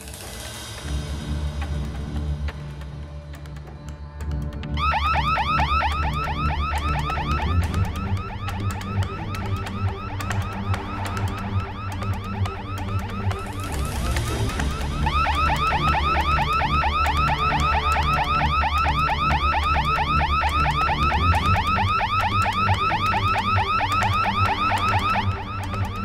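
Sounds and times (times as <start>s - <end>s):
electronic alarm siren warbling: 4.8s - 26.0s.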